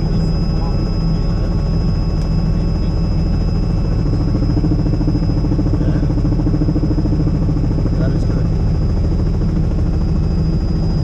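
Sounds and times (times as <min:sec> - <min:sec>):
helicopter engine and rotor drone: 0:00.0 - 0:11.0
high engine whine: 0:00.0 - 0:11.0
low hum: 0:00.0 - 0:11.0.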